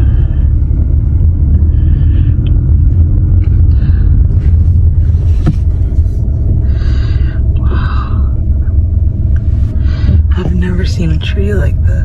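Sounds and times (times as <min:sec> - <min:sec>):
loud low rumble: 0:00.0 - 0:12.0.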